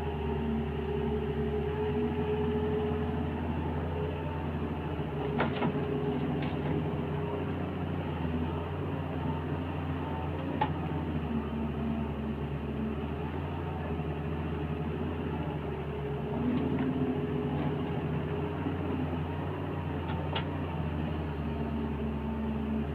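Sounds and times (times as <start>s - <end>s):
diesel excavator engine running: 0.0s - 22.9s.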